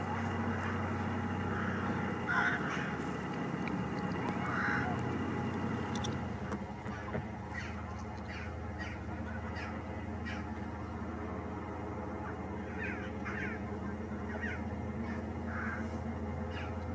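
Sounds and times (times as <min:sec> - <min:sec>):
low engine-like hum: 0:00.0 - 0:16.9.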